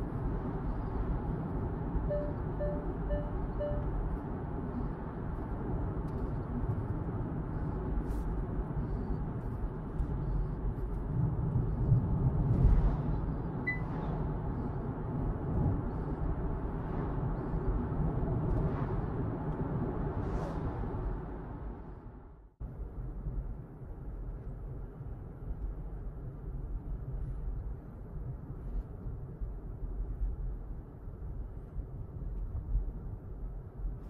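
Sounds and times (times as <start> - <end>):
road and tyre noise in car: 0.0 - 34.0.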